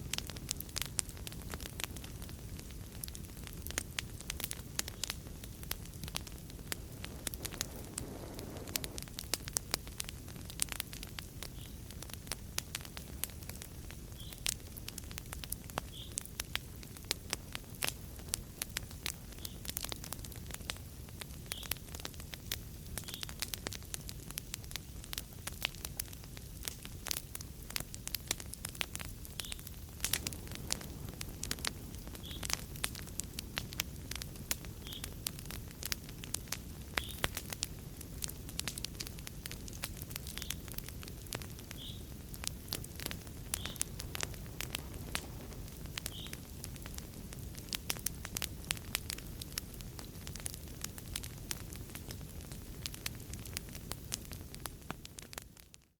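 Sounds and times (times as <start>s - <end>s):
low rumble of flames: 0.0s - 55.9s
wood fire crackling and popping: 0.0s - 55.9s.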